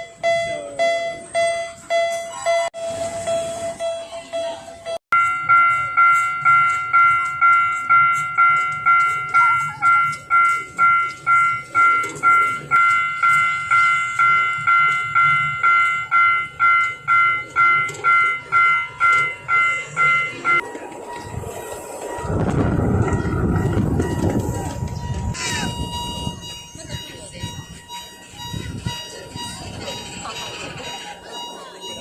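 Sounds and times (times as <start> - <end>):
railroad crossing warning bell: 0.0 - 32.0.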